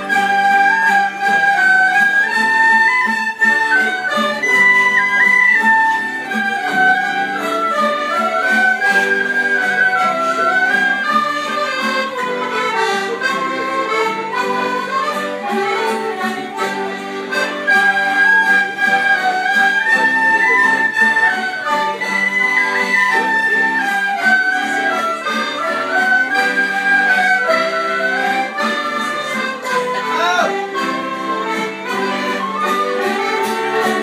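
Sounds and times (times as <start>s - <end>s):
whistle: 0.0s - 12.2s, 17.3s - 31.0s, 31.9s - 34.0s
accordion: 0.0s - 34.0s
fiddles: 0.0s - 34.0s
guitar: 0.0s - 34.0s.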